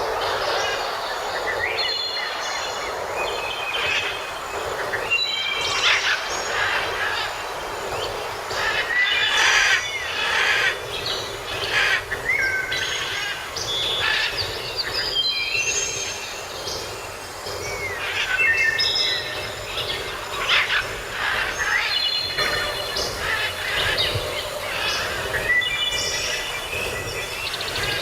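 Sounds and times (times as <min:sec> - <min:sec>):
birds chirping and whistling: 0:00.0 - 0:28.0
steady hiss: 0:00.0 - 0:28.0.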